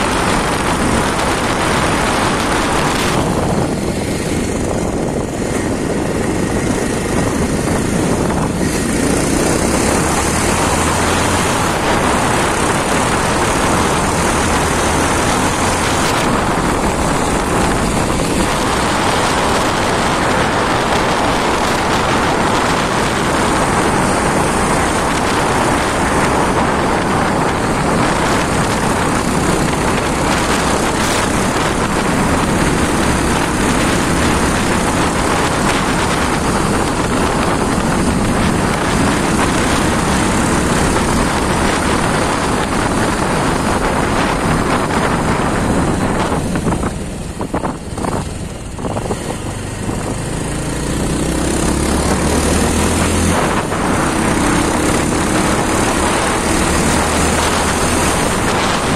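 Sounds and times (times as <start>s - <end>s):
motorcycle engine running: 0.0s - 58.9s
wind noise: 0.0s - 58.9s.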